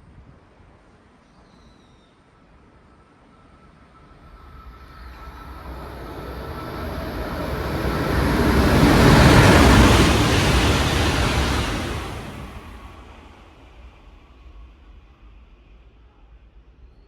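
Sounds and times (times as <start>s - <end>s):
train passing at high speed: 2.9s - 16.9s.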